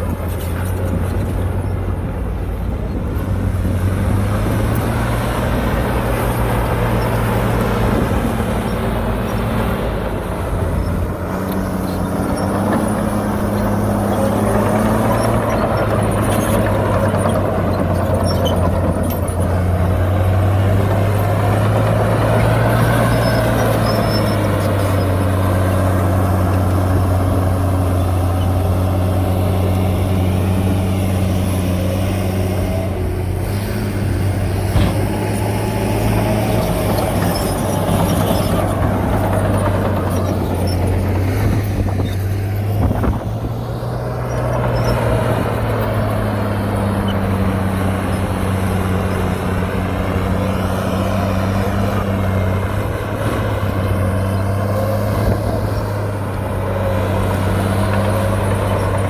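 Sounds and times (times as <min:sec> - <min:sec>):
heavy diesel engine working: 0:00.0 - 0:59.0.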